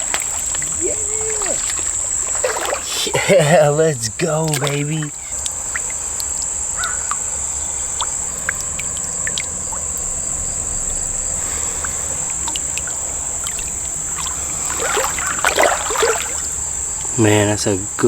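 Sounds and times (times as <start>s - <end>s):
fish splashing at water surface: 0.0s - 17.4s
high-pitched insect chorus: 0.0s - 18.0s.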